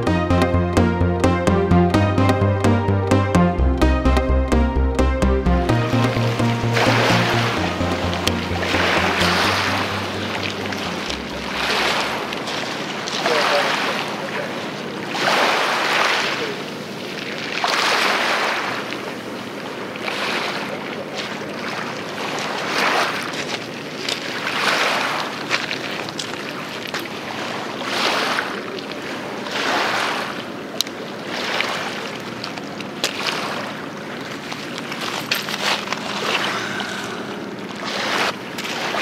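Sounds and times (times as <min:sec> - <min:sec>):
boat engines droning: 0:00.0 - 0:39.0
churning splashing water: 0:05.5 - 0:39.0.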